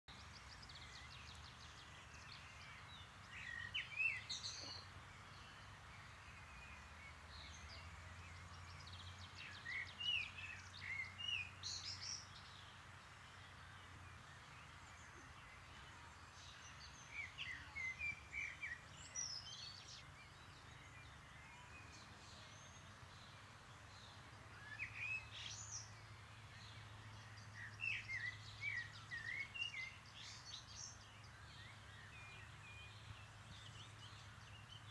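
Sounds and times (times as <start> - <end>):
songbird chirping and trilling: 0.1 - 34.9.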